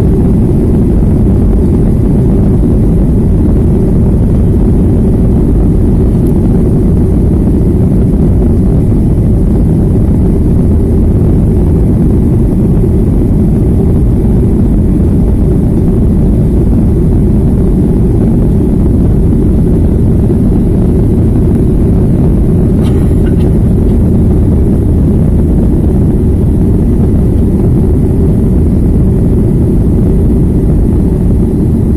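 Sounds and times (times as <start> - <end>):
jet engine drone in cabin: 0.0 - 31.9.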